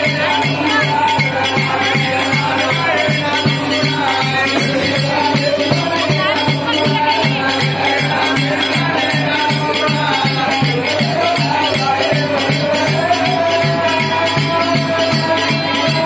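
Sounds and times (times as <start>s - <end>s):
drum beating steadily: 0.0s - 16.0s
jingling rattles or bells: 0.0s - 16.0s.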